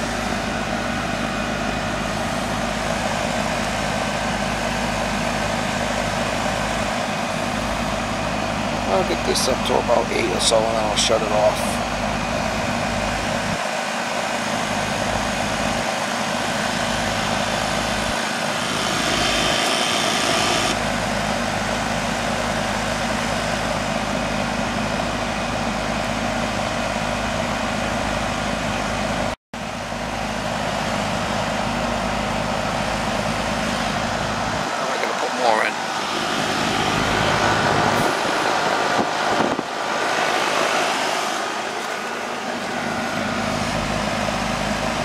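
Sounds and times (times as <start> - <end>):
air conditioner condenser humming: 0.0 - 27.8, 29.7 - 45.0.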